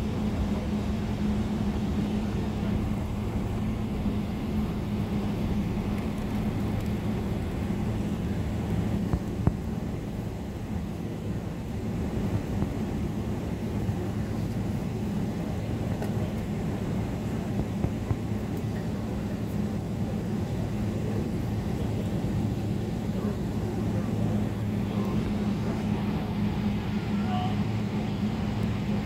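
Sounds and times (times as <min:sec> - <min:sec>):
aircraft wheels rumbling on ground: 0:00.0 - 0:29.0
jet engines droning: 0:00.0 - 0:29.0.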